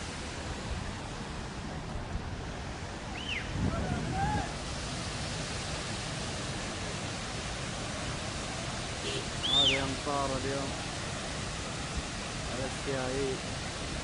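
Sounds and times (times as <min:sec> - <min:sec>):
rainwater rushing: 0:00.0 - 0:14.0.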